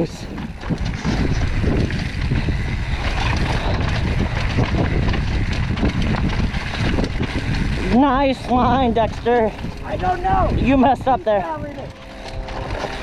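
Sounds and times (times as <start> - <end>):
bike clattering over rocks: 0.0 - 13.0
bike tyres rolling on dirt: 0.0 - 13.0
wind on microphone: 0.0 - 13.0.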